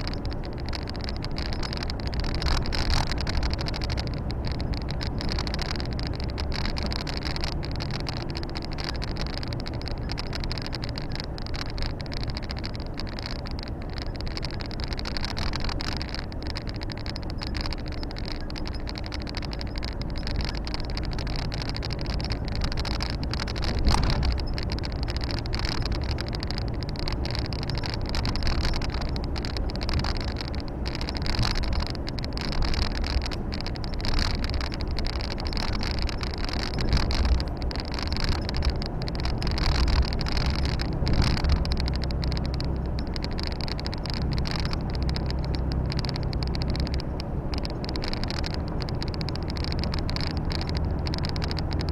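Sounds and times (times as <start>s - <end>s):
tyre and road noise: 0.0s - 51.9s.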